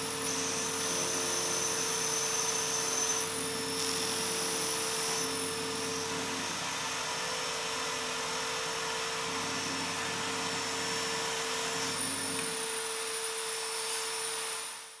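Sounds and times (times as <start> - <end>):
drill press motor whine: 0.0 - 15.0.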